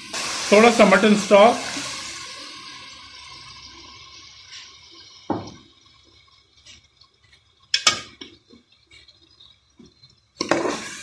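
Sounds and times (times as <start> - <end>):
stock sizzling in a pot: 0.0 - 11.0.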